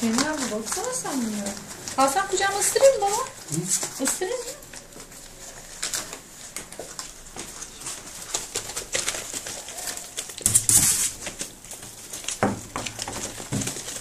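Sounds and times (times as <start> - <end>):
paper rustling: 0.0 - 14.0
paws scratching: 0.0 - 14.0.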